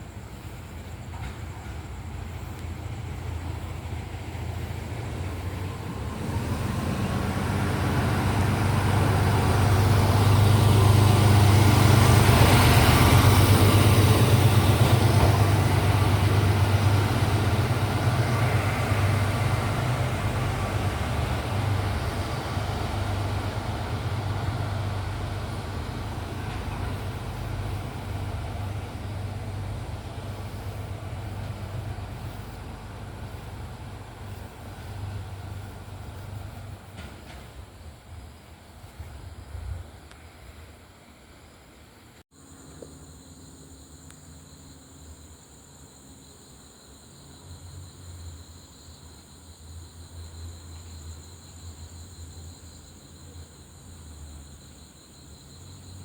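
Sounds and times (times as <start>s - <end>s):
low hum of train: 0.0s - 56.0s
rushing rail and wind noise: 0.0s - 56.0s.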